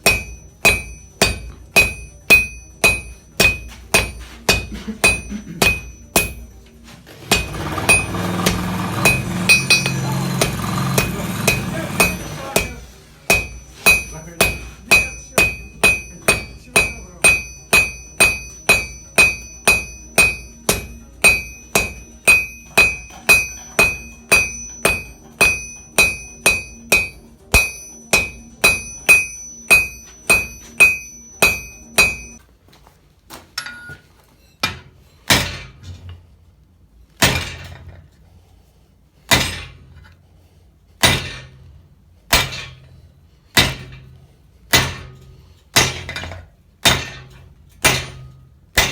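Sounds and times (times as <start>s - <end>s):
hammer striking iron on anvil: 0.0s - 32.4s, 33.6s - 34.0s, 34.6s - 36.1s, 37.2s - 38.0s, 39.3s - 40.2s, 41.0s - 48.9s.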